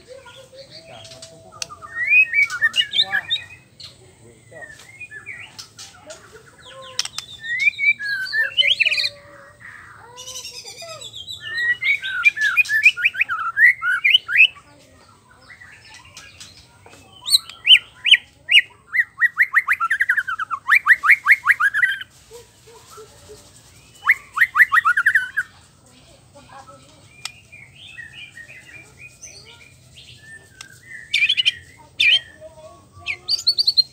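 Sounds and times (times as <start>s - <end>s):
bird singing varied song: 0.0s - 33.9s.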